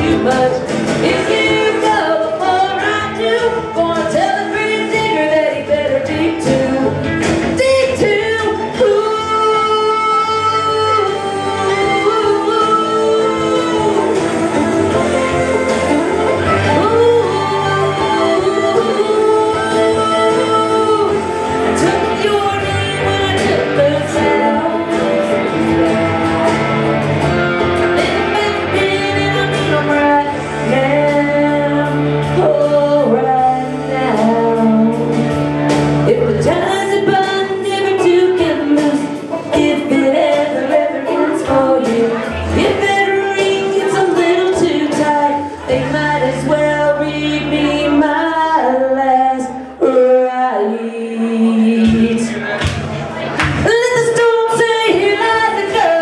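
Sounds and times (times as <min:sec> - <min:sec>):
woman singing into microphone: 0:00.0 - 0:26.4, 0:28.0 - 0:56.0
backing track with bass and drums: 0:00.0 - 0:50.6.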